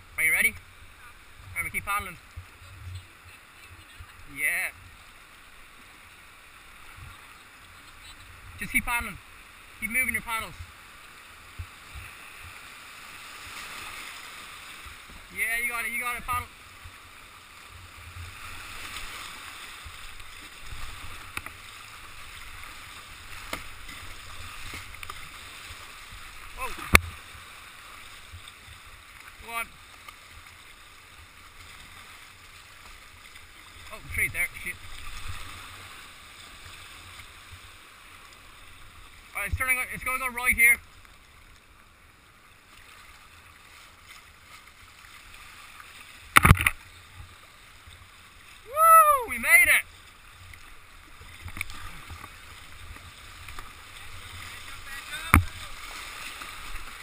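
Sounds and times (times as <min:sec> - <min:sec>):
paddle strokes splashing: 0:00.0 - 0:57.0
river current rushing: 0:00.0 - 0:57.0.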